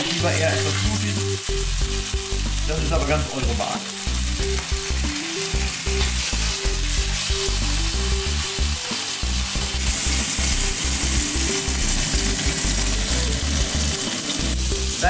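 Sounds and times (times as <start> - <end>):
background music with bass: 0.0 - 15.0
meat sizzling in a frying pan: 0.0 - 15.0.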